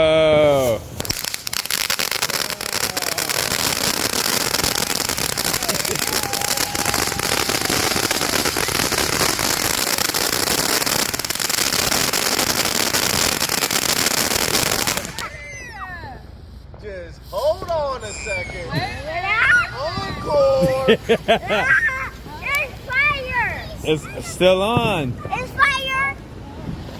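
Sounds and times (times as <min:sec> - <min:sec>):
firework hissing and crackling: 0:00.5 - 0:26.0.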